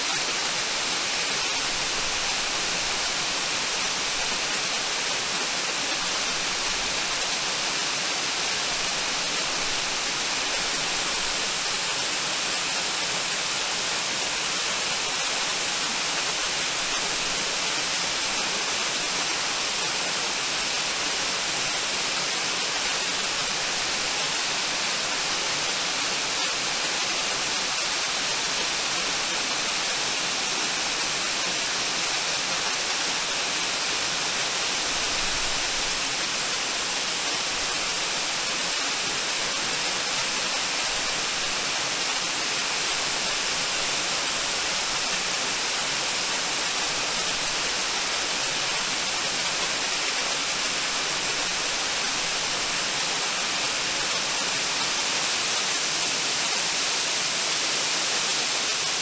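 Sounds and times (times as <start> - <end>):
waterfall rushing onto rocks: 0.0 - 59.0.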